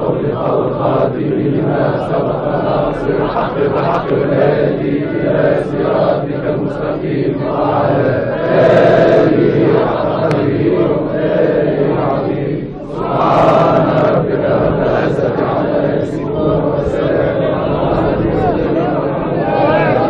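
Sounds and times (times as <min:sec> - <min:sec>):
crowd of men chanting: 0:00.0 - 0:20.0.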